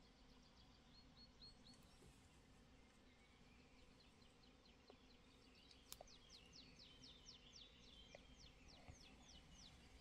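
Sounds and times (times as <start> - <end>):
quiet outdoor ambience: 0.0 - 10.0.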